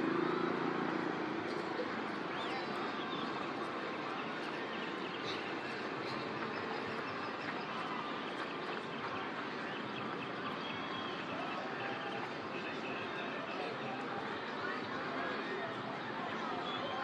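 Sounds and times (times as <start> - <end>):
distant indistinct voices: 0.0 - 17.0
outdoor background noise: 0.0 - 17.0.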